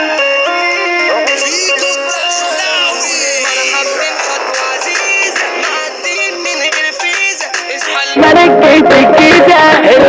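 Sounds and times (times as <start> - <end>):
electronic melody with pitch glides: 0.0 - 10.0.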